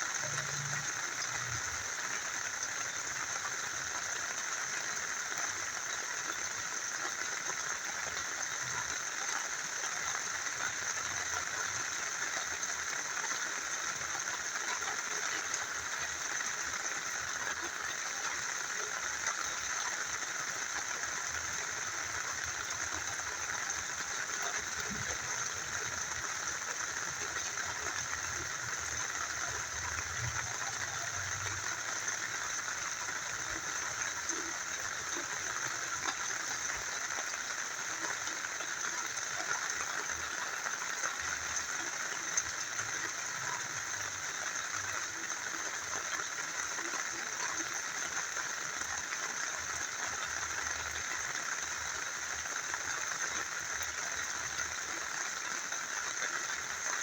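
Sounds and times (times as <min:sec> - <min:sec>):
rain falling: 0:00.0 - 0:57.0
river flowing: 0:00.0 - 0:57.0.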